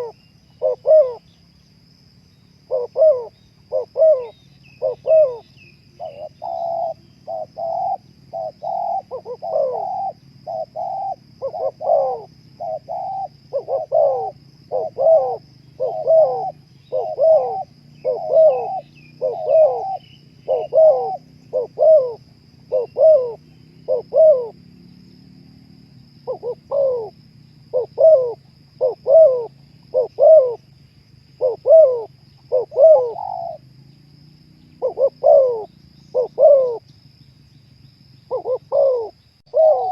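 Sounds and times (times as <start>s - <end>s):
dove cooing: 0.0s - 1.4s, 2.6s - 24.6s, 26.1s - 33.7s, 34.7s - 36.8s, 38.3s - 39.9s.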